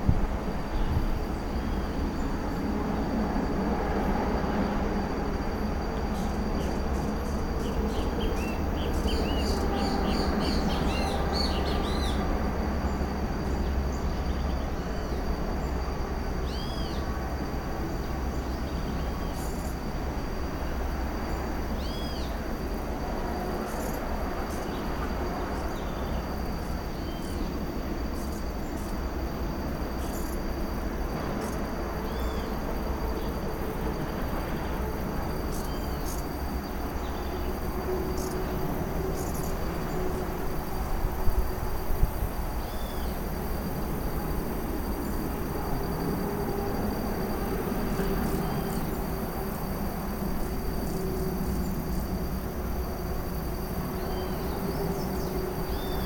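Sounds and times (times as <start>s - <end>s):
high insect tone: 0.0s - 56.0s.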